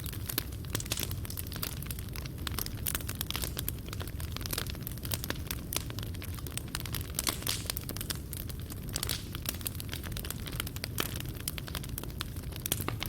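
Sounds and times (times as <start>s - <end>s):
fire crackles and pops: 0.0s - 13.0s
low rumble of flames: 0.0s - 13.0s.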